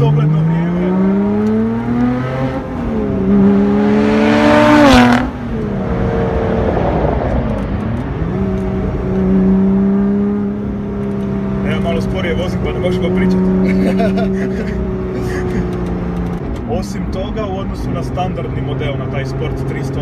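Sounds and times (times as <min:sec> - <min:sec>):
car engine revving hard: 0:00.0 - 0:16.6.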